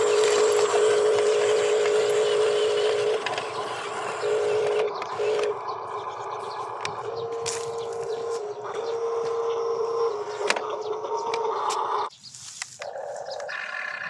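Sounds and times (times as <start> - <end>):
electric motor whining: 0.0 - 12.1.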